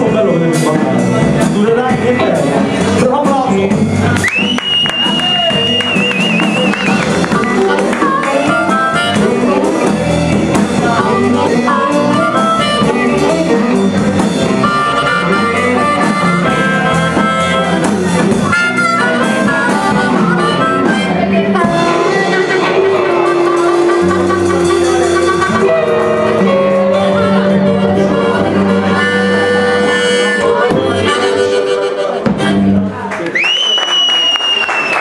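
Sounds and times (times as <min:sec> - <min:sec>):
electric bass: 0:00.0 - 0:33.1
electric guitar: 0:00.0 - 0:33.3
amplified harmonica: 0:03.9 - 0:32.9.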